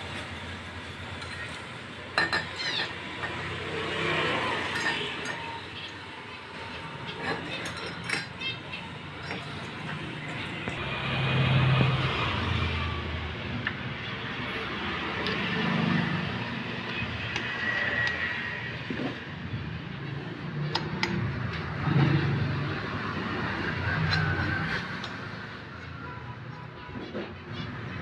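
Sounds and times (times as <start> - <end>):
traffic rumbling past: 0.0 - 28.0.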